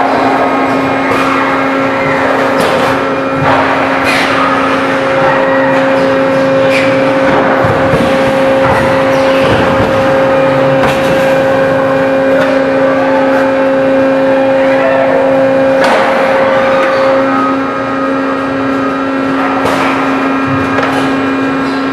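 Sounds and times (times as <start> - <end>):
production line machinery humming: 0.0 - 21.9.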